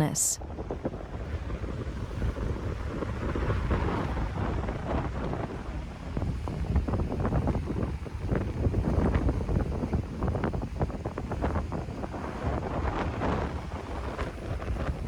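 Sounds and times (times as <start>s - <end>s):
wind buffeting microphone: 0.4s - 15.0s.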